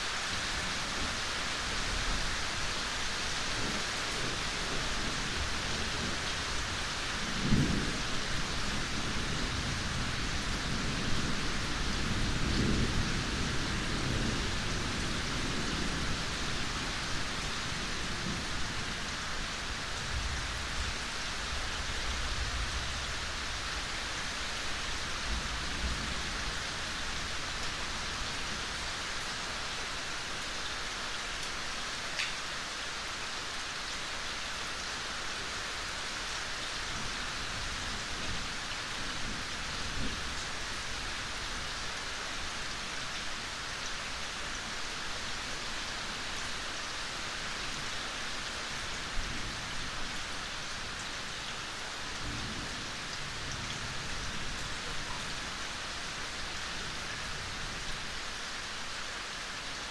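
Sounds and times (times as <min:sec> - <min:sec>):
gentle rain falling: 0:00.0 - 0:59.9
louder raindrops: 0:00.0 - 0:59.9.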